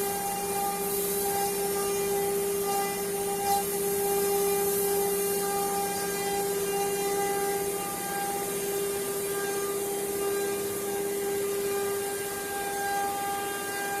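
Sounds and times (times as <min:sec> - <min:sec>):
hiss of cutting: 0:00.0 - 0:14.0.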